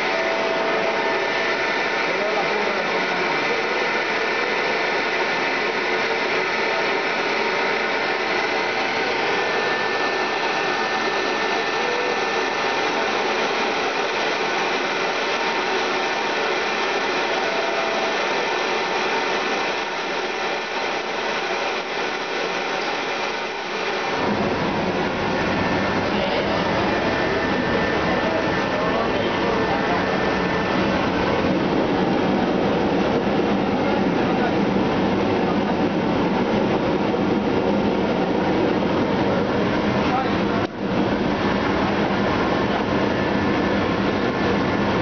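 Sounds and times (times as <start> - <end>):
blower fan running: 0.0 - 45.0.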